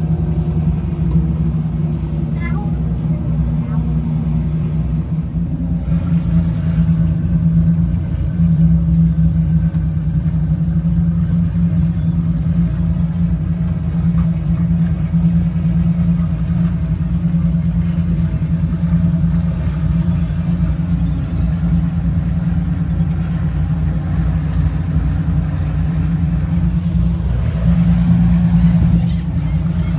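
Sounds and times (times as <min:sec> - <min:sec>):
boat engines droning: 0:00.0 - 0:29.9.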